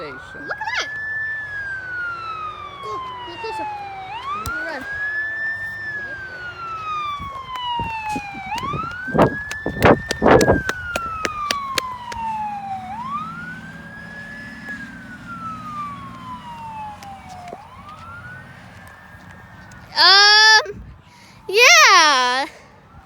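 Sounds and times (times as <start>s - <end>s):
siren wailing: 0.0s - 20.8s, 21.5s - 23.0s.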